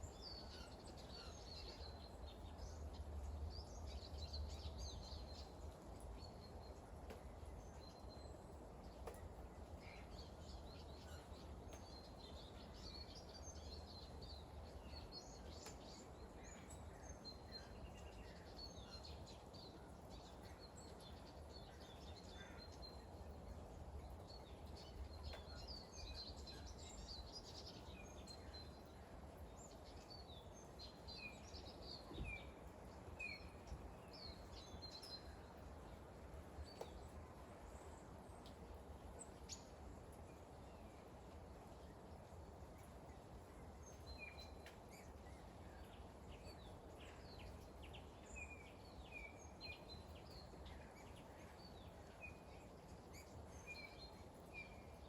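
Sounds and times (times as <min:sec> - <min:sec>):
faint low hiss: 0:00.0 - 0:55.0
small birds chirping: 0:00.0 - 0:55.0.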